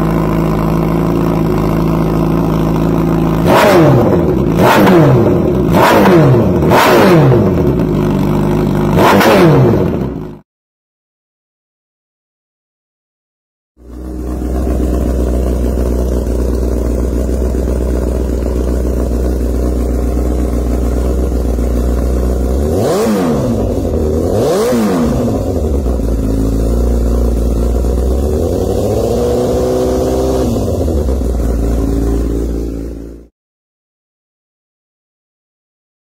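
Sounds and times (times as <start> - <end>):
motorcycle engine idling and revving: 0.0 - 10.4, 13.8 - 33.3.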